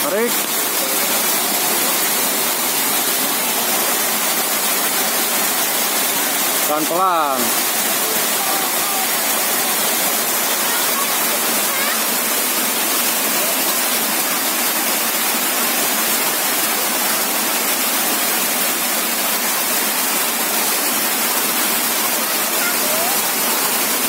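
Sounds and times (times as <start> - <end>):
river water rushing over rocks: 0.0 - 24.0.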